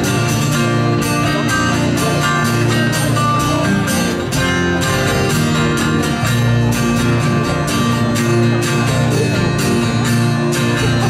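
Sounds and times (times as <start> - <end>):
live band playing: 0.0 - 11.0
strummed guitars: 0.0 - 11.0.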